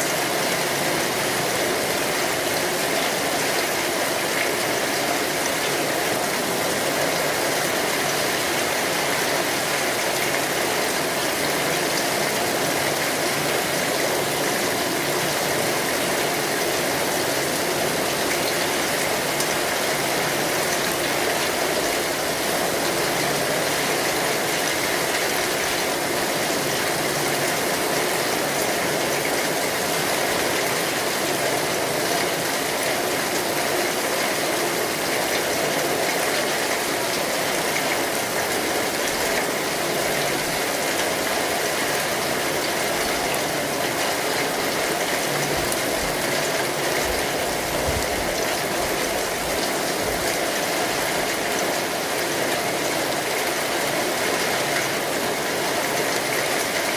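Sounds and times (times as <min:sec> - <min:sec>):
rain falling on an umbrella: 0:00.0 - 0:56.9.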